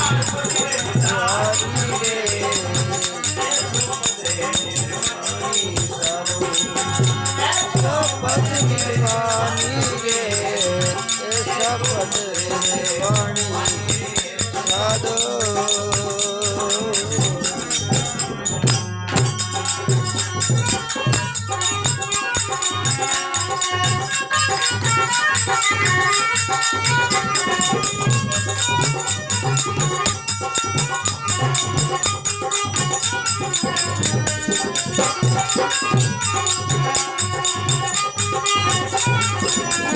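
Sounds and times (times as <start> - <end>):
hand drum beat: 0.0 - 39.9
jingling rattle percussion: 0.0 - 39.9
wavering melody: 0.0 - 39.9.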